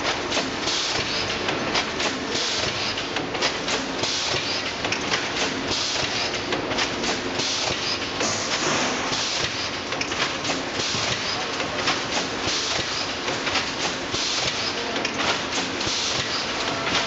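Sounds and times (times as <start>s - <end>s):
machine clattering: 0.0s - 17.0s.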